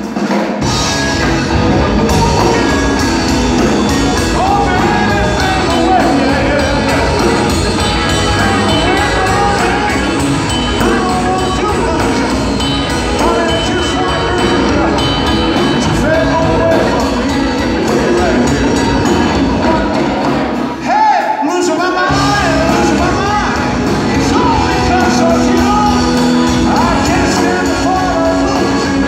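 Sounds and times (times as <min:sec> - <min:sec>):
electric guitar: 0:00.0 - 0:20.8, 0:22.0 - 0:29.0
drum kit with cymbals: 0:00.0 - 0:21.0, 0:22.0 - 0:29.0
keyboard: 0:00.0 - 0:29.0
bass: 0:00.6 - 0:20.9, 0:22.1 - 0:29.0.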